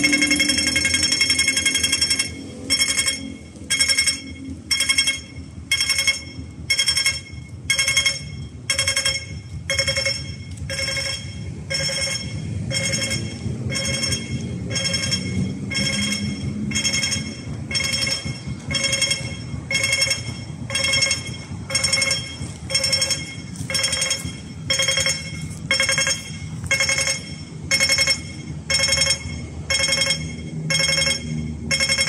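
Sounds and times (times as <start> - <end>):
low background rumble: 0.0 - 32.0
pedestrian signal beeping: 0.0 - 32.0.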